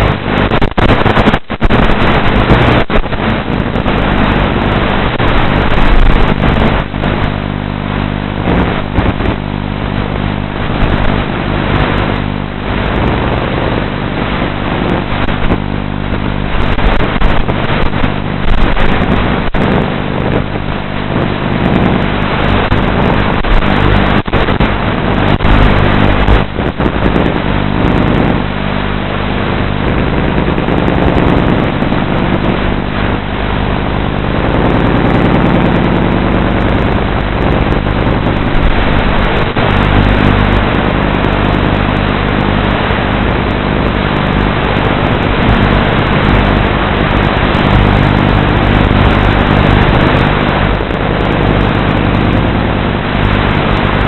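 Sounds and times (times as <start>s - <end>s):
rushing air noise: 0.0s - 54.0s
electric motor hum: 1.2s - 54.0s.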